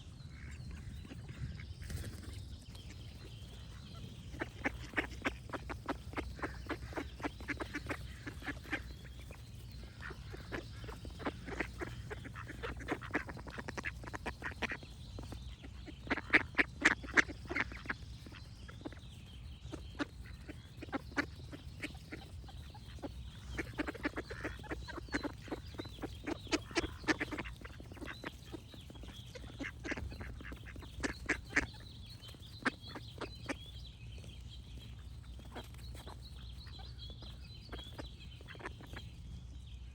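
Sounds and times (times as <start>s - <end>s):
faint birdsong: 0.0s - 39.9s
ducks quacking: 0.2s - 39.2s.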